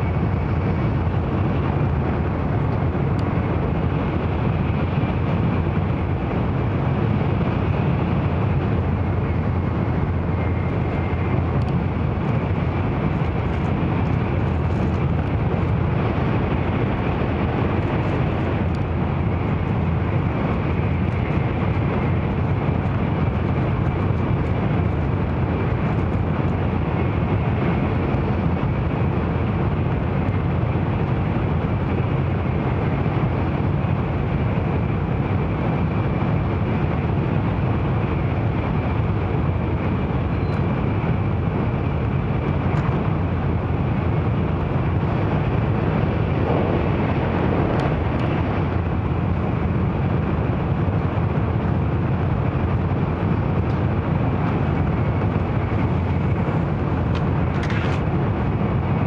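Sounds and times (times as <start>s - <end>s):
train cabin low rumble: 0.0s - 59.0s.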